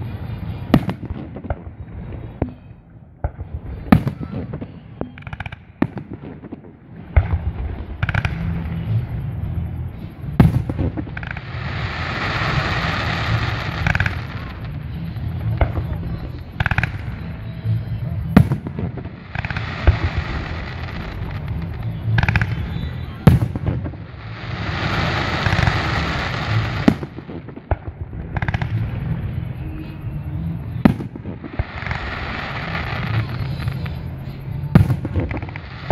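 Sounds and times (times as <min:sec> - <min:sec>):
crackling hiss: 0:00.0 - 0:35.9.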